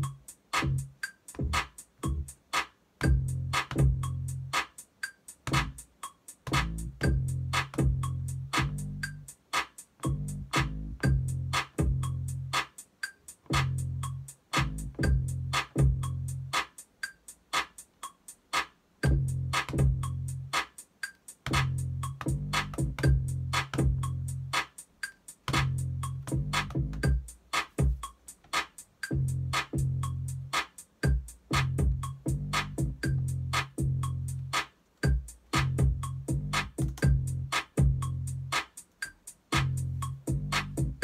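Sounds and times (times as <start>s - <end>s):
drum machine ticking beat: 0.0s - 41.0s.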